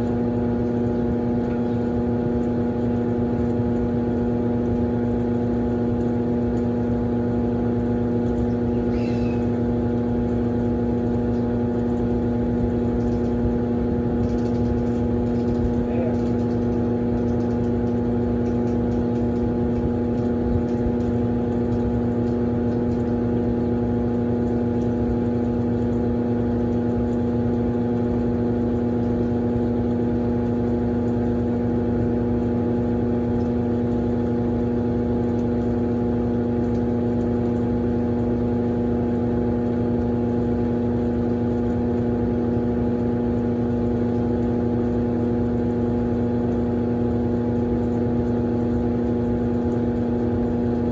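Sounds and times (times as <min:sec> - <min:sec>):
washing machine motor hum: 0:00.0 - 0:50.9.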